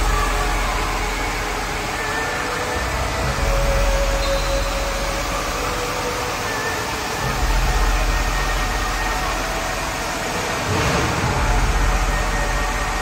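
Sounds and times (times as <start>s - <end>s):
water rushing down slides: 0.0s - 13.0s.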